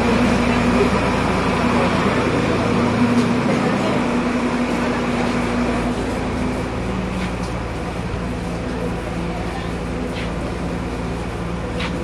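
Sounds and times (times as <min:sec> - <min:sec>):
diesel railcar engine idling: 0:00.0 - 0:12.0.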